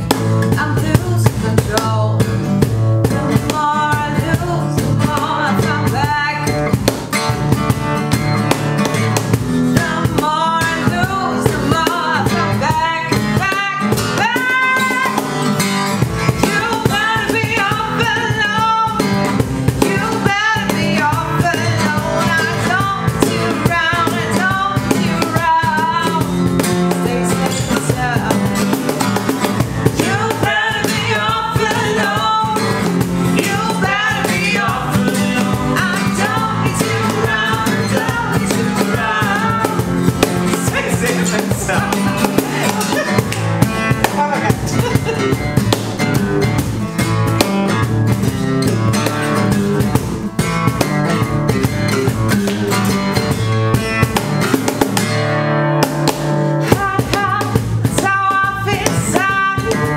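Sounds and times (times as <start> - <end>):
people singing pop-rock song: 0.0 - 53.5, 56.0 - 59.9
acoustic guitar strumming: 0.0 - 59.9
cajon beat: 0.0 - 59.9.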